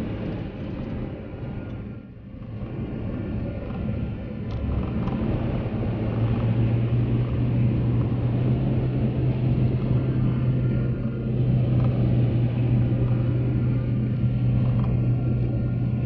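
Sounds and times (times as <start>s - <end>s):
car engine and tyre noise: 0.0s - 16.0s
low hum: 0.0s - 16.0s.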